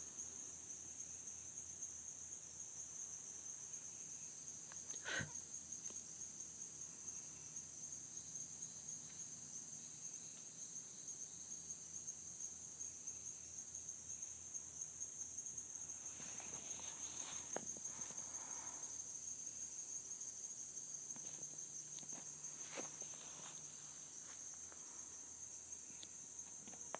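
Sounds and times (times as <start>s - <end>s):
high-pitched insect chorus: 0.0s - 26.9s.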